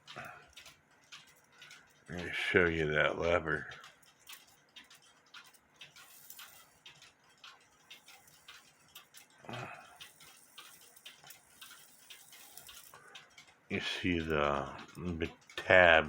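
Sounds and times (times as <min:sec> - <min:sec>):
clock movement ticking and clicking: 0:00.0 - 0:16.0.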